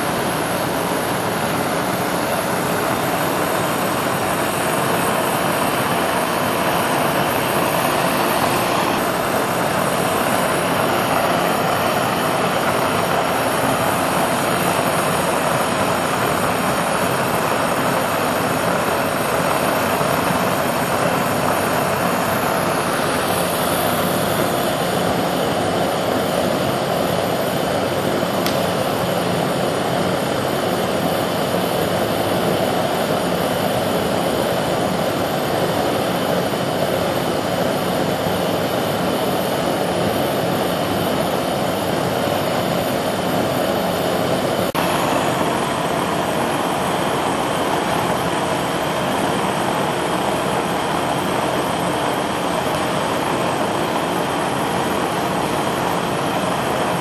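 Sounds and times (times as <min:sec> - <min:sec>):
gas burner flame rushing: 0:00.0 - 0:57.0.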